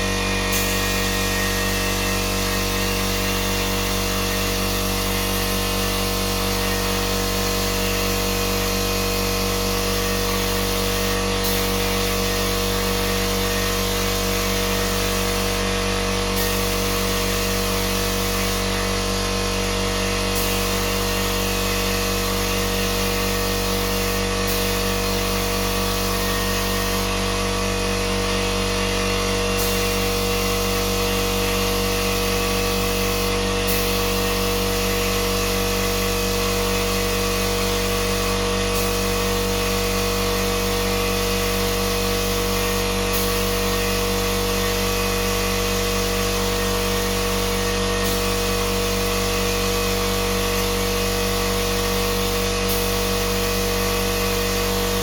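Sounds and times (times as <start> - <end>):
electric power tool motor humming: 0.0 - 55.0.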